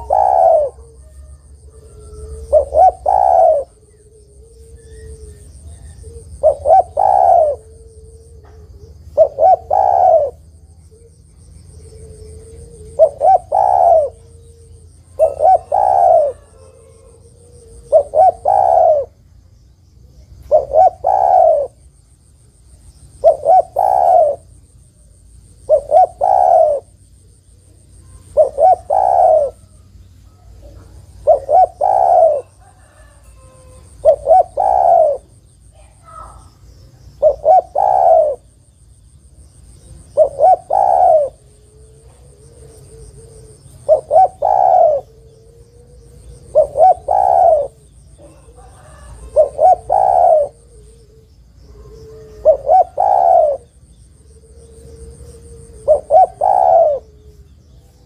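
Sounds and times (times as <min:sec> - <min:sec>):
dove cooing: 0:00.0 - 0:19.3, 0:20.1 - 0:21.9, 0:23.1 - 0:38.8, 0:39.7 - 0:58.0.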